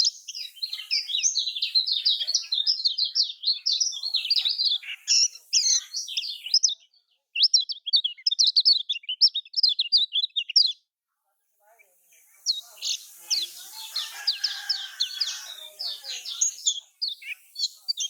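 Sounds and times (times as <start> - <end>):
bird chirping song: 0.0 - 11.0, 11.6 - 18.0.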